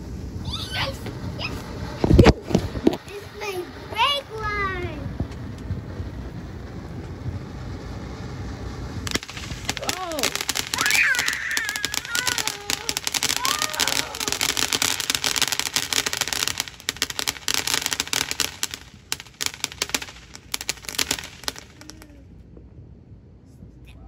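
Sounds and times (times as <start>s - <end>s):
firework hissing and crackling: 0.0s - 22.8s.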